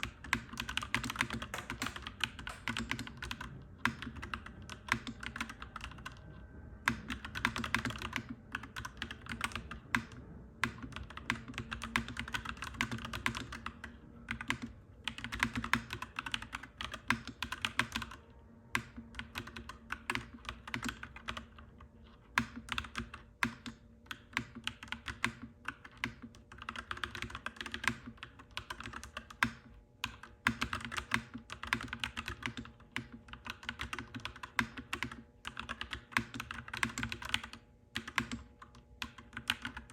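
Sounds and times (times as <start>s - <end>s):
mechanical keyboard typing: 0.0s - 6.2s, 6.9s - 39.9s
faint low hum: 0.0s - 39.9s.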